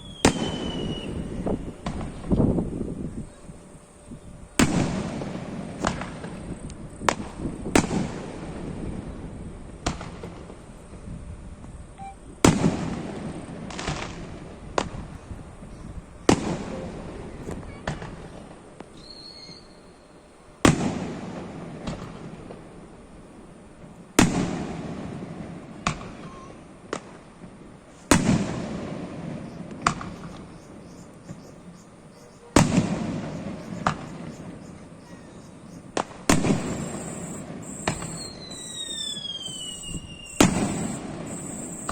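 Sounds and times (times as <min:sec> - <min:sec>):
fireworks bursting: 0:00.0 - 0:03.6, 0:04.6 - 0:10.7, 0:12.4 - 0:19.9, 0:20.6 - 0:22.8, 0:23.8 - 0:41.9.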